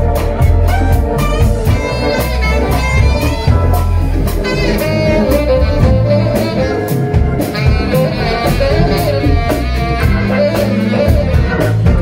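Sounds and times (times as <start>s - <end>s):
jazz combo playing: 0.0s - 12.0s
steady cymbal beat: 0.0s - 12.0s
tenor saxophone: 0.0s - 12.0s.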